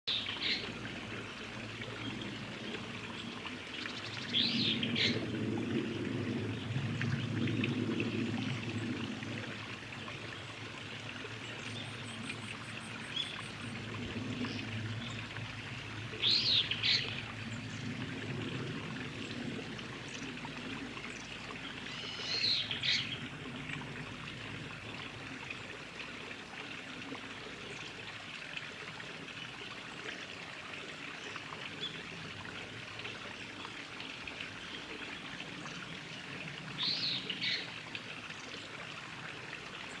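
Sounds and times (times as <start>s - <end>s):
running water trickling: 0.1s - 40.0s.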